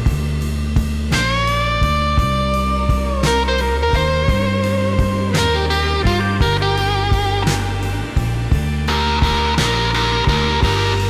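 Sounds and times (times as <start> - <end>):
bass and drums: 0.0 - 11.0
electric guitar blues: 0.0 - 11.0.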